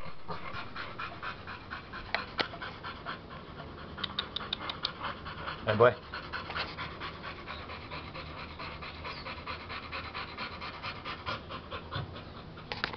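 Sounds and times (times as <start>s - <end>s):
dog panting: 0.0s - 12.9s.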